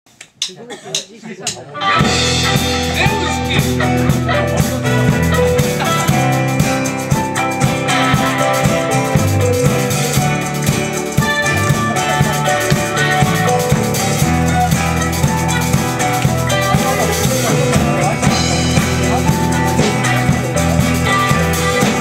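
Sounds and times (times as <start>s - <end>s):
drum kit: 0.1s - 22.0s
keyboard: 1.6s - 22.0s
acoustic guitar: 1.8s - 22.0s
electric bass: 1.9s - 22.0s.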